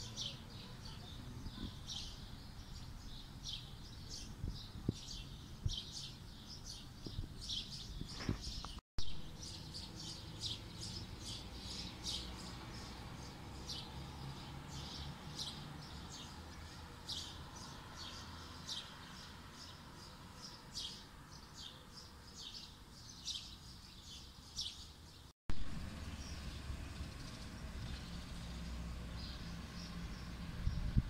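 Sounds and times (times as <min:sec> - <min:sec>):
small birds chirping: 0:00.0 - 0:25.3, 0:26.0 - 0:31.0.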